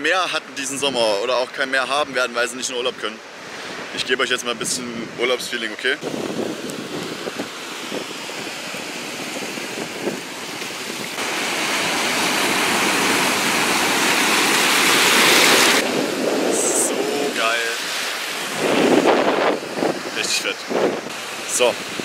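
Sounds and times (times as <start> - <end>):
sea surf washing in: 3.2 - 5.4, 6.0 - 22.0.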